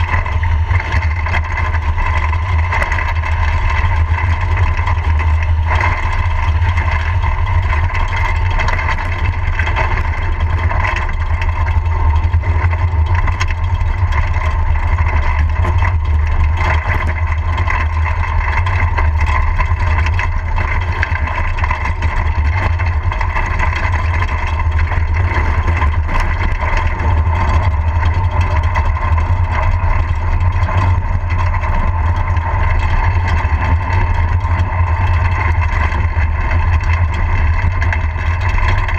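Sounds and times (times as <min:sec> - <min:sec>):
constant whine: 0:00.0 - 0:38.9
wheels rumbling on road: 0:00.0 - 0:38.9.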